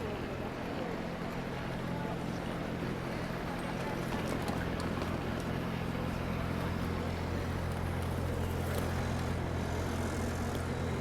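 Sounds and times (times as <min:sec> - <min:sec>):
street noise: 0:00.0 - 0:11.0
vehicle engines droning: 0:00.0 - 0:11.0.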